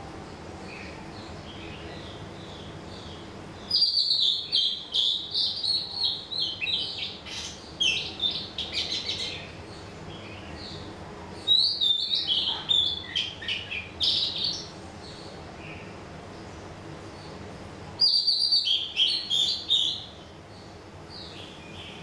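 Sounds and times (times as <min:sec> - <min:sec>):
songbird chirping: 0:00.1 - 0:22.0.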